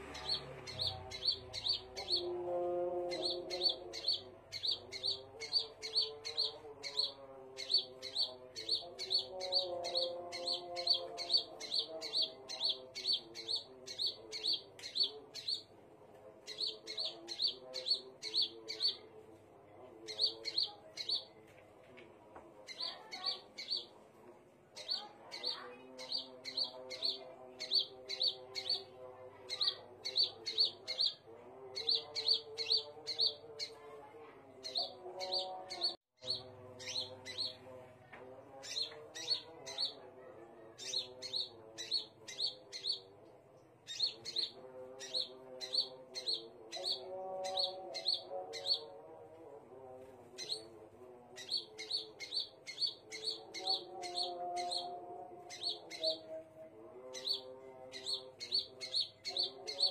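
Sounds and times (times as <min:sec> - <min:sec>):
bird chirping: 0:00.0 - 0:02.4, 0:03.0 - 0:15.8, 0:16.4 - 0:19.2, 0:19.9 - 0:21.4, 0:22.6 - 0:24.0, 0:24.8 - 0:33.9, 0:34.6 - 0:49.2, 0:50.3 - 0:50.8, 0:51.4 - 0:59.9.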